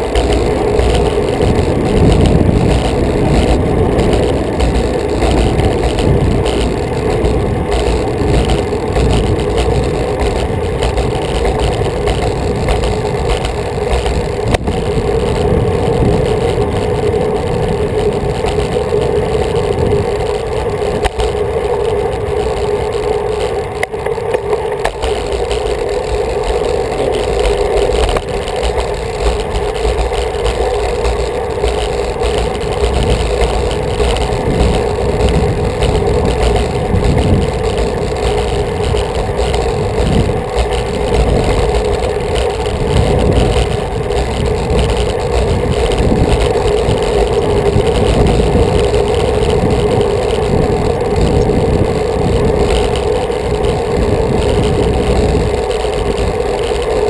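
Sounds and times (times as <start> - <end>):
tyres rolling on concrete: 0.0 - 57.0
wind rushing over microphone: 0.0 - 57.0.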